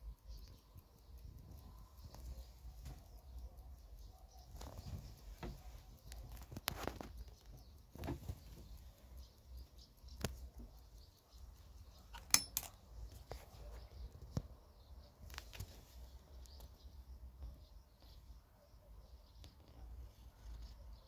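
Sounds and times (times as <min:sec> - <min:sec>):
light clicks and taps: 0:00.0 - 0:18.3.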